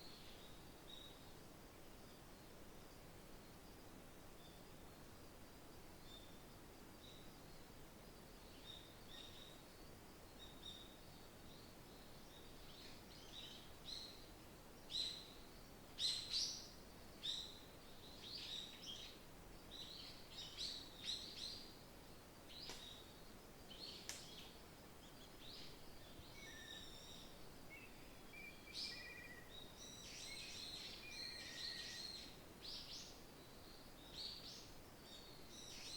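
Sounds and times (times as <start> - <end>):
faint wind hiss: 0.0 - 35.9
small songbirds chirping: 0.0 - 35.9.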